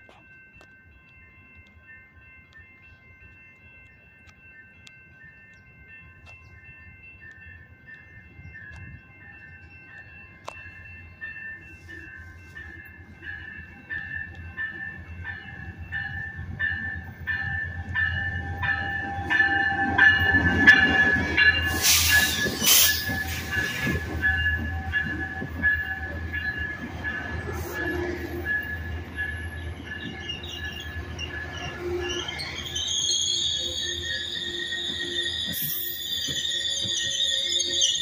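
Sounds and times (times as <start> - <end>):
crossing bell ringing: 0.0 - 38.0
train rumbling past: 7.4 - 38.0.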